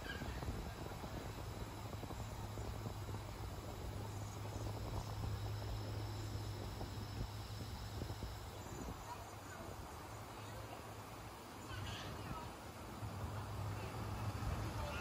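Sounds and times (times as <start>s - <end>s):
low hum: 0.0s - 15.0s
sprinkler water spraying on grass: 0.0s - 15.0s.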